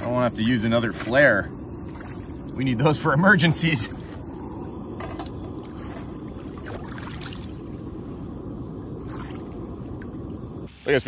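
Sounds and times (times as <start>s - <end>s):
camp stove burning: 0.0s - 10.7s.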